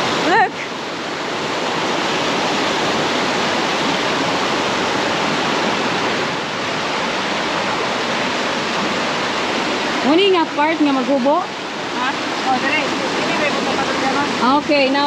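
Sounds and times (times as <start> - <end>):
stream water rushing over rocks: 0.0 - 15.0.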